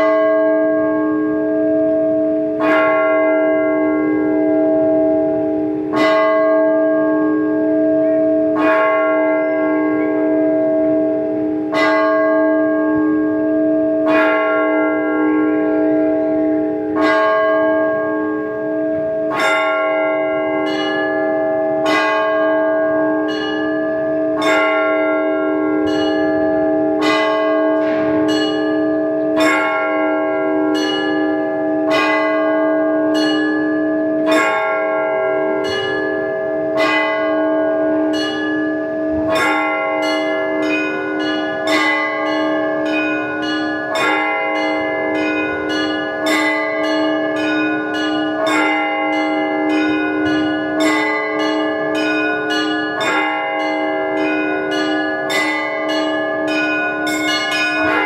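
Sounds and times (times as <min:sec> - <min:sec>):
deep church bells humming: 0:00.0 - 0:58.0
small bells struck: 0:00.0 - 0:58.0.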